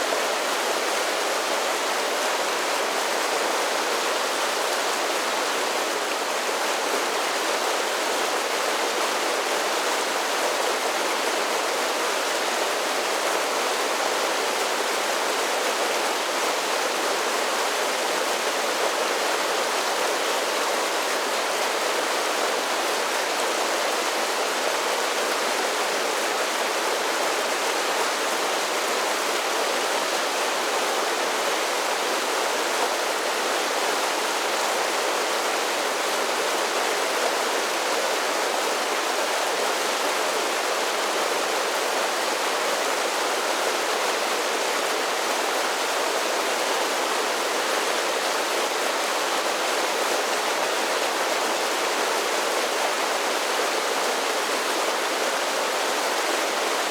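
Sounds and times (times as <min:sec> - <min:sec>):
creek rushing over small waterfalls: 0:00.0 - 0:56.9.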